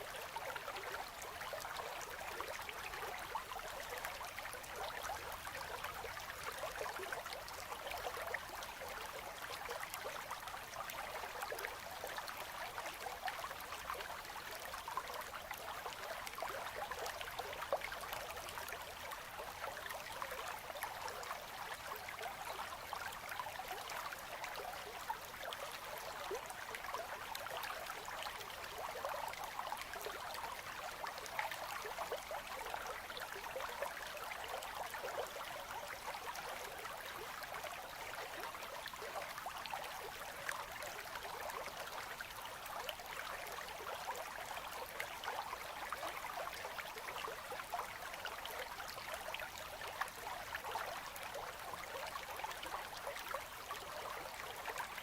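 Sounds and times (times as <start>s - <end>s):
river babbling and trickling: 0.0s - 55.0s.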